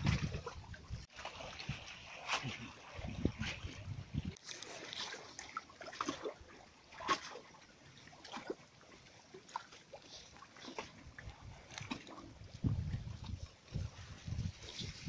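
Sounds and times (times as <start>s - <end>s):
water lapping and splashing: 0.0s - 15.0s.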